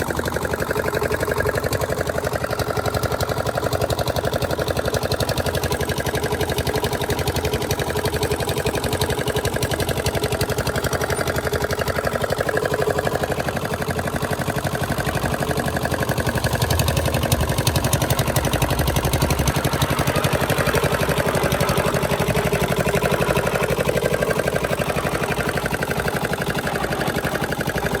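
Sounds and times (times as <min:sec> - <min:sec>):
construction machine engine pulsing: 0:00.0 - 0:28.0.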